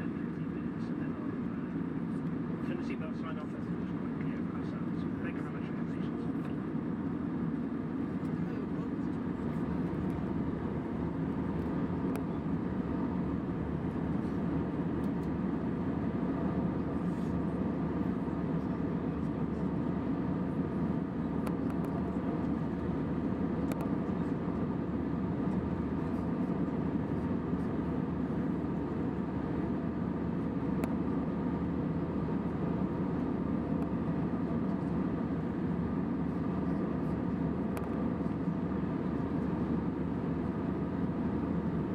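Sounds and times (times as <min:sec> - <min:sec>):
airplane cabin engine roar: 0:00.0 - 0:41.9
faint steady hum: 0:00.0 - 0:41.9.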